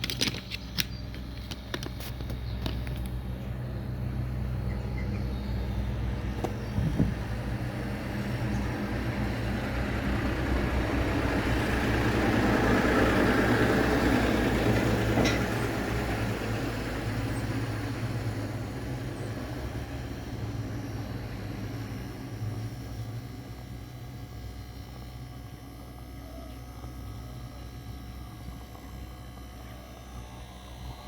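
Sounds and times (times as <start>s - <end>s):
espresso machine pump humming: 0.0s - 31.0s.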